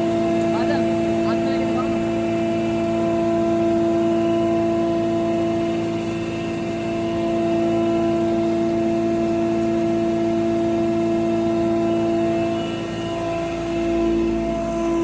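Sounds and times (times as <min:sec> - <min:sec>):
feed pulveriser machine humming: 0:00.0 - 0:15.0.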